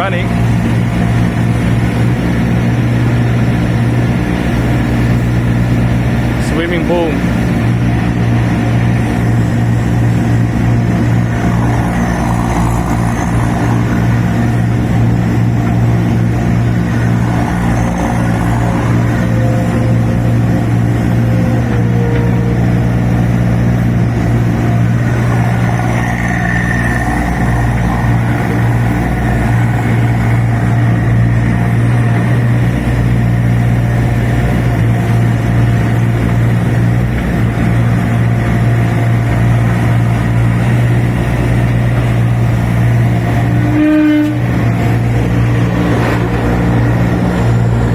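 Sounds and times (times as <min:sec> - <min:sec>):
diesel engine running steadily: 0:00.0 - 0:47.9.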